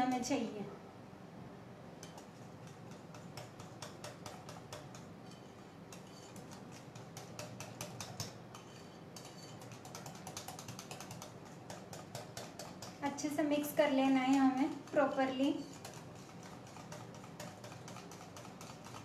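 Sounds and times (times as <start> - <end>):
whisk clicking against glass bowl: 2.0 - 19.0.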